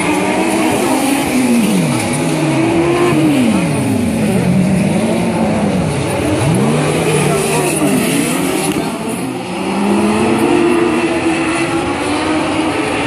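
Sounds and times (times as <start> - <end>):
racing buggy engines revving: 0.0 - 13.0.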